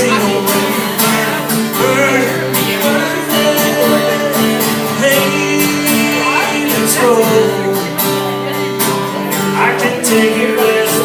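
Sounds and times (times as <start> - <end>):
person singing: 0.0 - 11.0
strummed guitar: 0.0 - 11.0.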